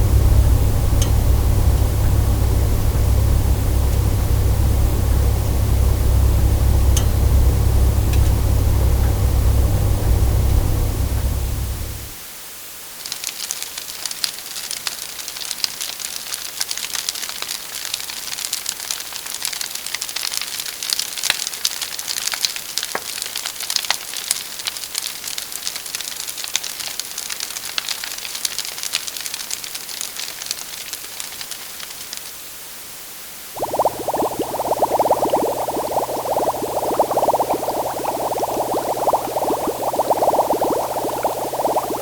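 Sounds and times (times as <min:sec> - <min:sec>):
crackling hiss with pops: 0:00.0 - 0:42.0.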